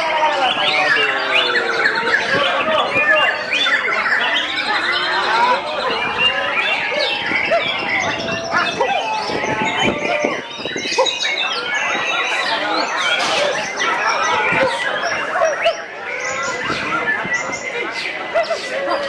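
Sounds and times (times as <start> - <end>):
birds singing whistles and trills: 0.2 - 19.0.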